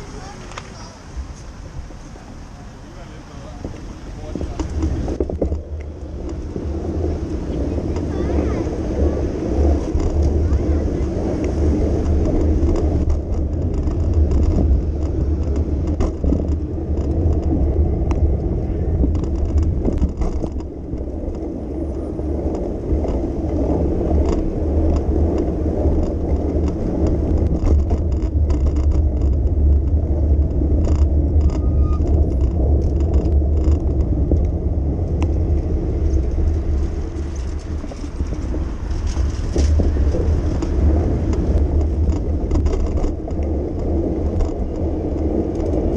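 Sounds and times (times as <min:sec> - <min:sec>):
bicycle riding and traffic rumble: 0:00.0 - 0:45.9
light clicks and rattles: 0:03.5 - 0:09.1, 0:09.7 - 0:45.9.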